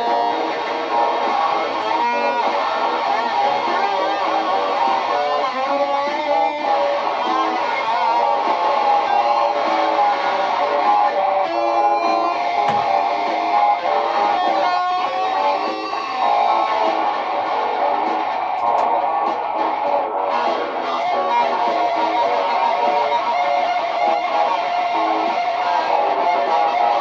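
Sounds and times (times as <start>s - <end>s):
layered electric guitars: 0.0s - 27.0s.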